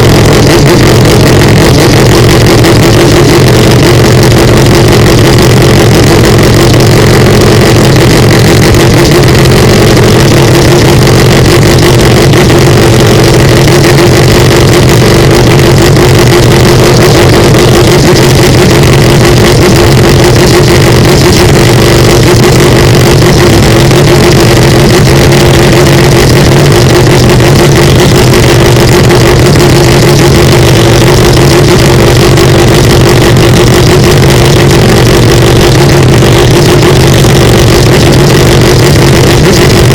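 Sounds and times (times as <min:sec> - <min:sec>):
rotary engine running distorted: 0:00.0 - 0:39.9.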